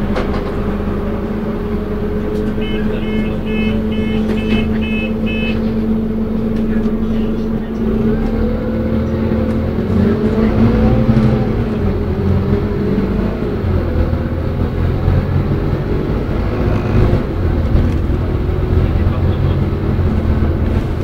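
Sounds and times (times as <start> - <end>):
bus engine rumble: 0.0 - 21.0
engine whine: 0.0 - 21.0
road noise: 0.0 - 21.0.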